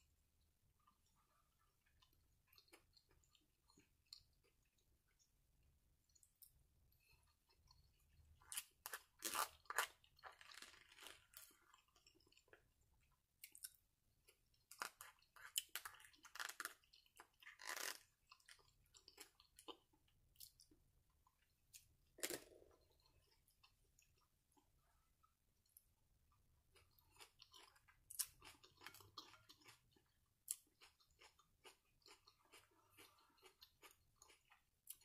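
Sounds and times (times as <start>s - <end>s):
chewing and crunching food: 0.4s - 35.0s.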